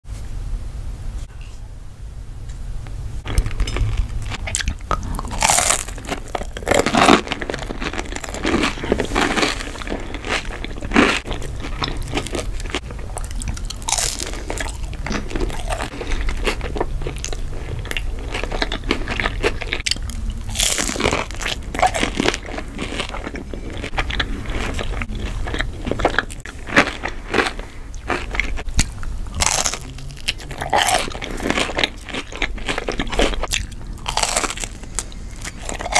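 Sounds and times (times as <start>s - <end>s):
crunchy bites: 3.2s - 35.9s
person chewing: 3.2s - 35.9s.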